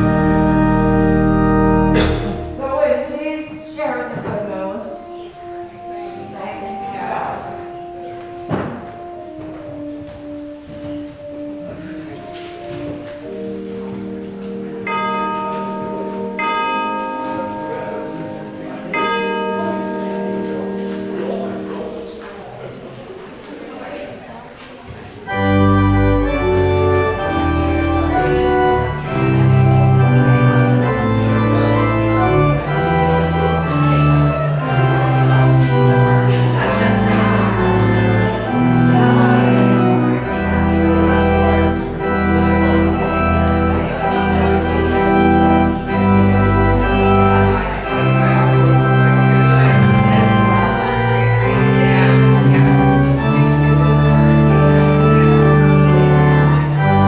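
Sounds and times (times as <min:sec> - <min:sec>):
church organ chords: 0:00.0 - 0:24.3, 0:25.2 - 0:57.0.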